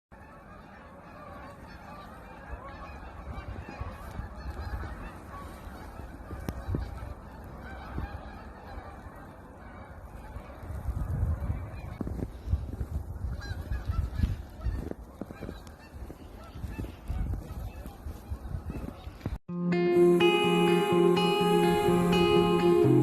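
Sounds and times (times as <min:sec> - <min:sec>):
geese honking: 0:00.2 - 0:12.0, 0:13.2 - 0:19.2, 0:20.0 - 0:23.0.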